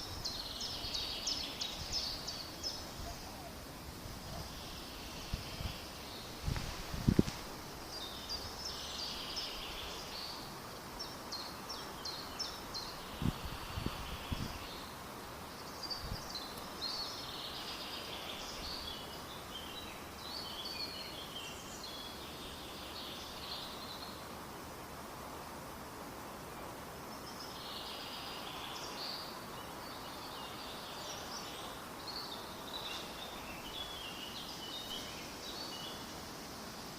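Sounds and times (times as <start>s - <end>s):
birds chirping and warbling: 0.0s - 24.3s, 27.0s - 36.2s
steady background hiss: 0.0s - 36.9s.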